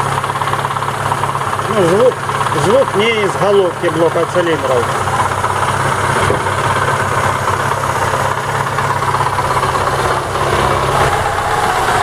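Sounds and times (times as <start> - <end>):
car engine idling with knock: 0.0 - 12.0.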